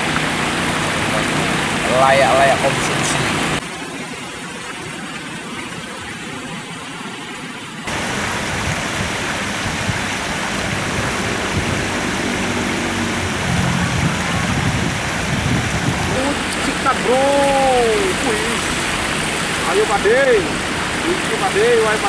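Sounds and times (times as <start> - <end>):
water rushing over weir: 0.0 - 22.0.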